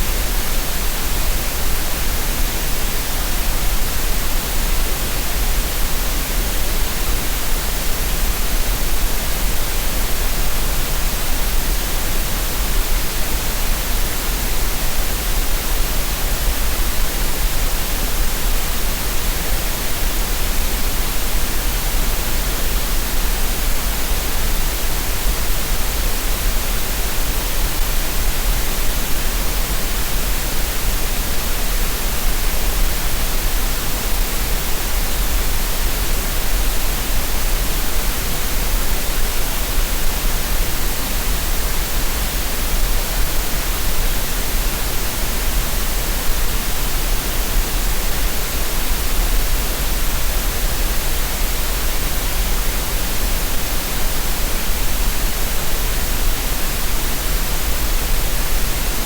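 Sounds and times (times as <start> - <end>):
steady green noise hiss: 0.0 - 59.0.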